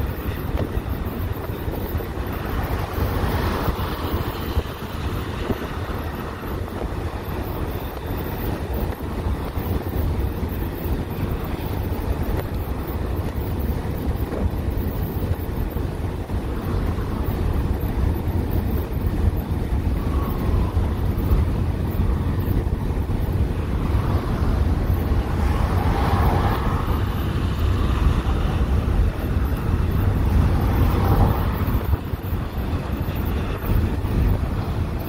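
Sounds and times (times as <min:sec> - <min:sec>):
passing traffic: 0:00.0 - 0:35.0
truck passing on highway: 0:00.0 - 0:35.0
wind buffeting microphone: 0:00.0 - 0:35.0.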